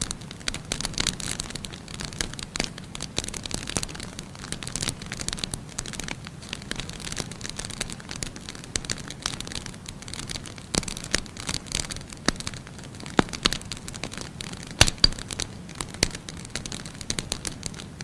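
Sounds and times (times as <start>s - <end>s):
firewood crackling in fireplace: 0.0s - 18.0s.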